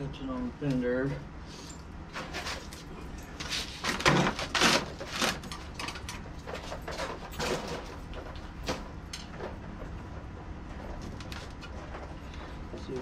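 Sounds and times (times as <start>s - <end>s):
metal scraping and clanking: 1.6s - 13.0s.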